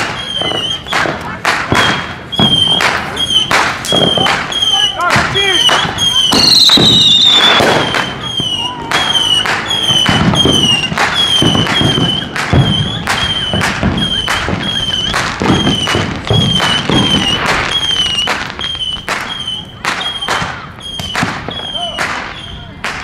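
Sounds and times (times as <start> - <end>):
fireworks cracking and whistling: 0.0 - 23.0
low fireworks booms: 0.0 - 23.0.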